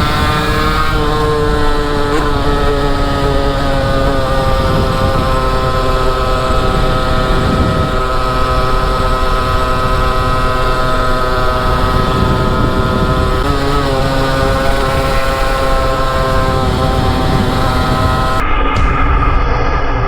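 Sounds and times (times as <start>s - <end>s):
motorcycle engine running: 0.0s - 18.4s
wind on microphone: 0.0s - 19.4s.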